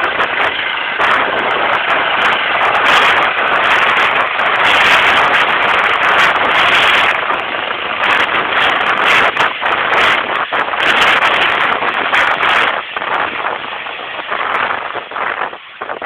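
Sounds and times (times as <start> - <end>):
helicopter rotor and turbine: 0.0 - 16.0.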